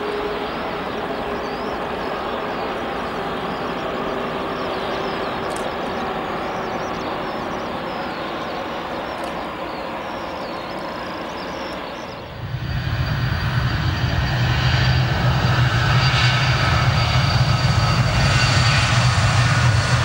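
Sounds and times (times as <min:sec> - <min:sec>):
jet engines roaring with whine: 0:00.0 - 0:20.0.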